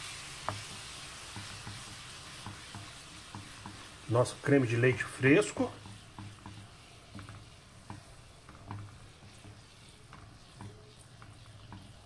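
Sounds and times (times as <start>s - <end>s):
caramel sauce sizzling: 0.0s - 12.0s
wooden spoon stirring in pan: 0.0s - 12.0s.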